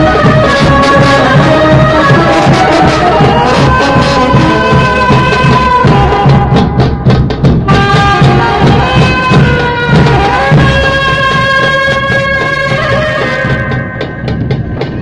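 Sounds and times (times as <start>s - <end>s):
saxophone melody: 0.0s - 6.8s, 7.6s - 14.0s
steady drum beat: 0.0s - 15.0s.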